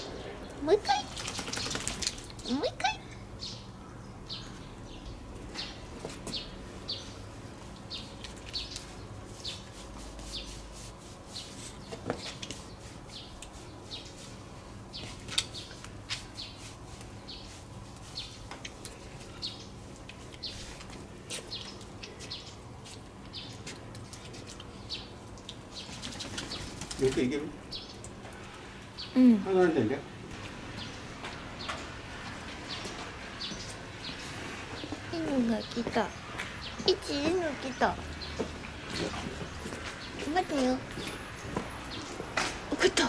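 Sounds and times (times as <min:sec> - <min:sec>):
small birds chirping: 0:00.0 - 0:10.7, 0:11.3 - 0:29.8, 0:30.7 - 0:42.2
faint steady hum: 0:00.0 - 0:43.0.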